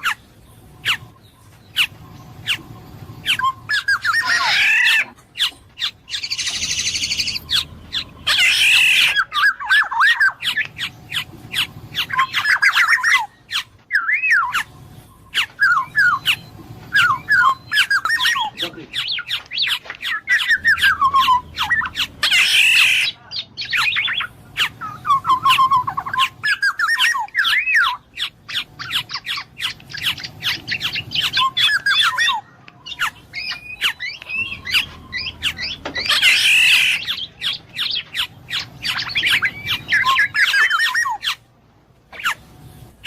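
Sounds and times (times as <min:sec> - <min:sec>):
bird whistling calls: 0:00.0 - 0:41.4
bird rasping squawk: 0:03.2 - 0:14.7, 0:15.3 - 0:23.2, 0:23.8 - 0:41.4.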